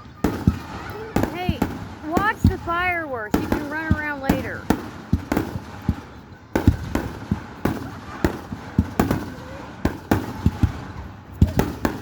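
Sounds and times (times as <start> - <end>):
fireworks bangs and booms: 0.0 - 12.0.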